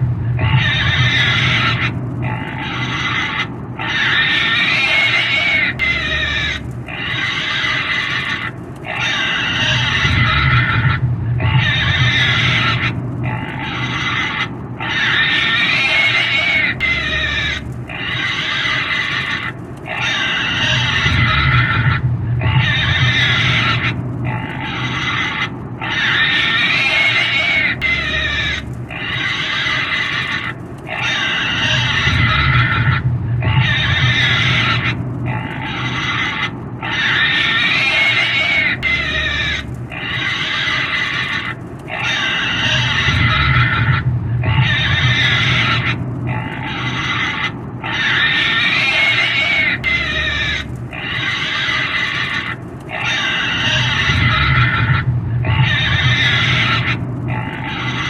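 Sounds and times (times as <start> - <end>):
pig squealing: 0.0 - 58.0.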